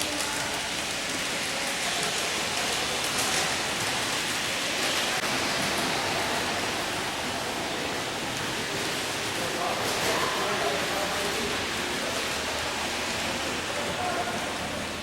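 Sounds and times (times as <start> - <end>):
train rushing noise: 0.0 - 15.0.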